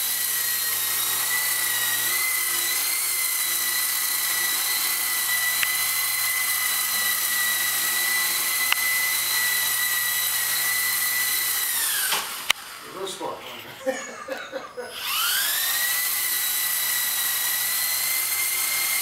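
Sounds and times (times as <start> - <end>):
rc helicopter rotor whine: 0.0 - 13.4, 14.8 - 19.0.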